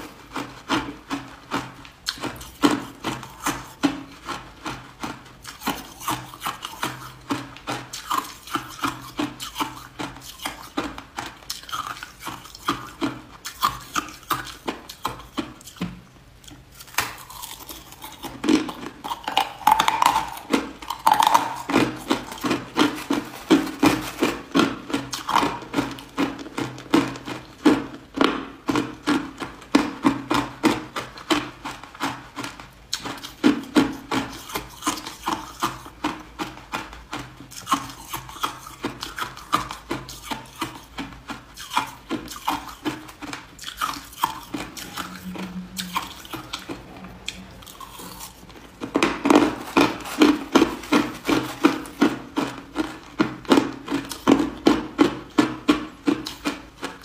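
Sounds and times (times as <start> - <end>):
ice being chewed and crunched: 0.0 - 57.0.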